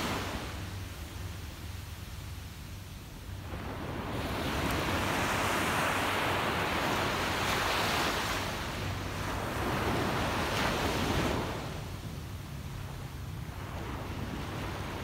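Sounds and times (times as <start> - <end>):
waves breaking on sand beach: 0.0 - 15.0.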